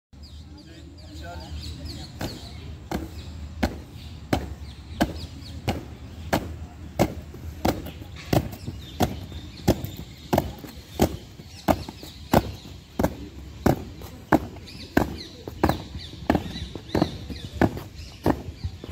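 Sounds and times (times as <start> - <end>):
boots stamping on pavement: 1.9 - 18.9.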